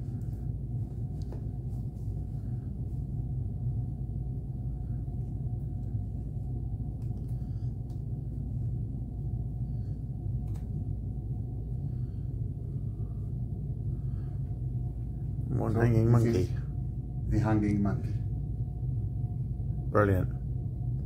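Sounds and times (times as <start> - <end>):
ship cabin rumble and hum: 0.0 - 21.0.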